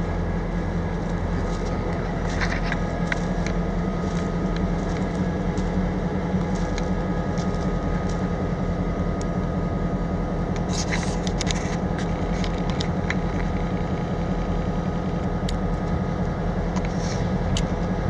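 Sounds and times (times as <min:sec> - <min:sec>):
diesel locomotive engine idling: 0:00.0 - 0:18.0.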